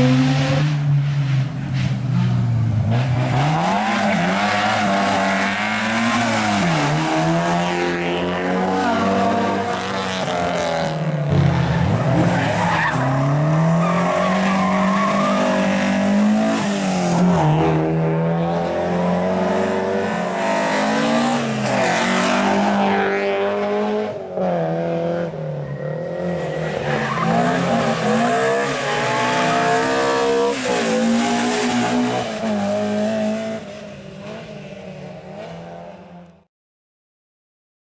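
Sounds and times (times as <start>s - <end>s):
rally car engine revving: 0.0s - 36.3s.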